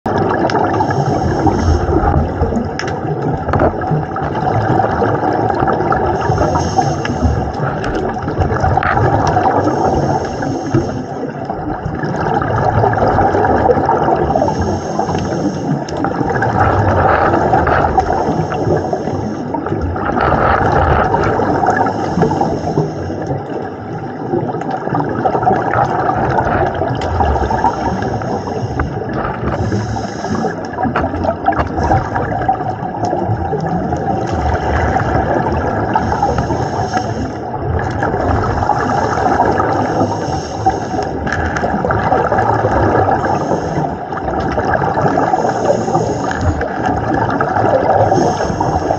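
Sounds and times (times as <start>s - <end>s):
underwater water rushing: 0.0s - 48.9s.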